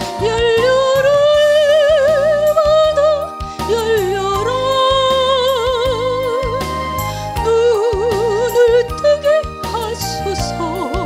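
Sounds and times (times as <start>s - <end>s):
recorded accompaniment with beat: 0.0s - 11.0s
woman singing a hymn: 0.2s - 11.0s.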